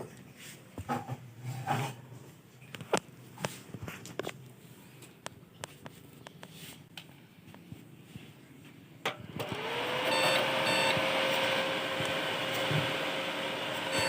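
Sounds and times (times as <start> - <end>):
computer fans whirring: 2.0 - 14.0.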